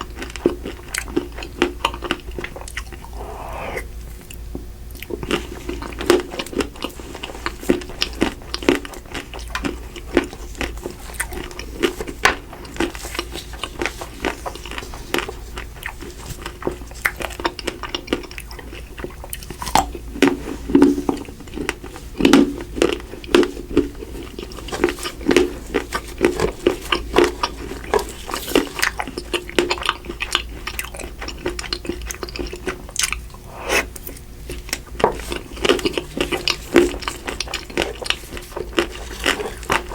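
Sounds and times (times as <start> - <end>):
person crunching and chewing: 0.0 - 39.9.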